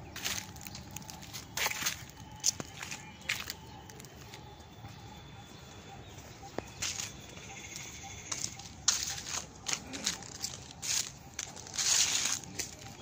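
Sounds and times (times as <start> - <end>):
faint outdoor background: 0.0 - 13.0
footsteps rustling in garden: 0.0 - 13.0.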